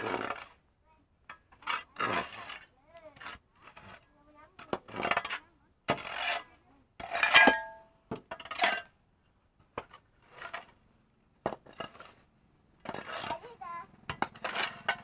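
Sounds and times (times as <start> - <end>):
metal blade scraping concrete: 0.0 - 0.6, 1.3 - 9.0, 9.8 - 10.8, 11.5 - 15.0.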